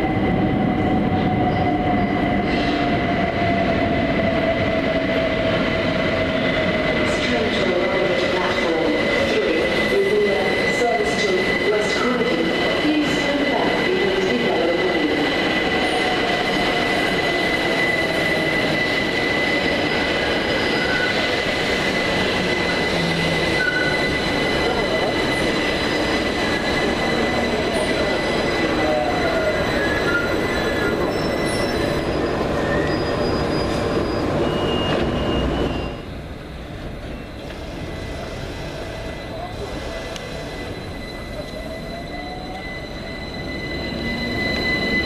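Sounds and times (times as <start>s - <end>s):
electric train rumbling on rails: 0.0s - 45.0s
high train whine: 0.0s - 45.0s.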